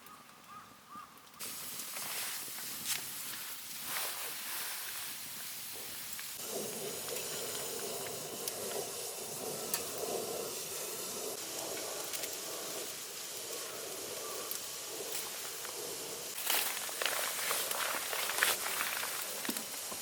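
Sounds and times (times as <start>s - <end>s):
pork sizzling in a grill pan: 1.4s - 20.0s.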